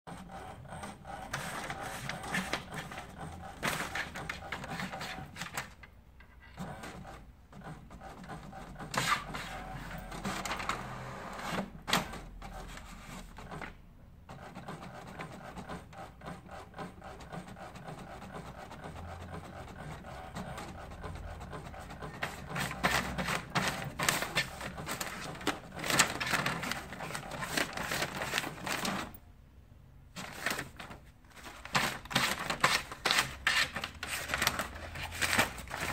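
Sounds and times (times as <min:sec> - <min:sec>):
printer whirring and clicking: 0:00.1 - 0:06.0, 0:06.6 - 0:29.2, 0:30.1 - 0:35.9.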